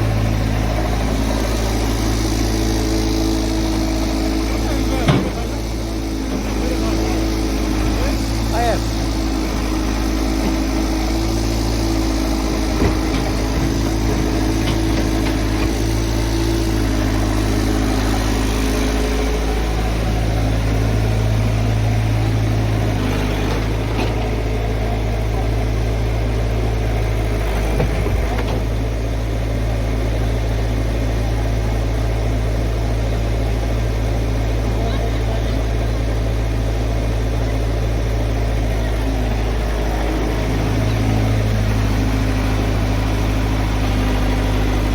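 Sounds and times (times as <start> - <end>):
diesel excavator engine running: 0.0 - 44.9
higher engine tone: 0.0 - 44.9.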